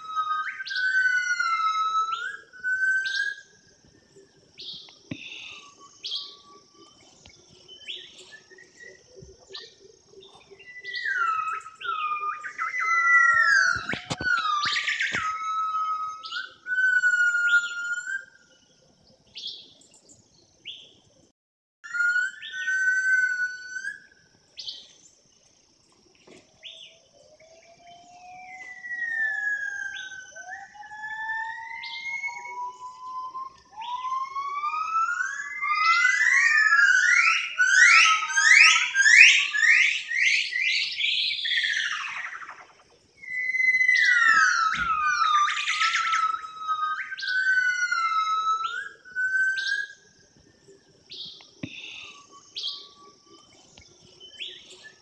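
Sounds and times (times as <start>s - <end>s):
bird singing whistled song: 0.0s - 21.0s, 21.8s - 25.1s, 26.6s - 55.0s.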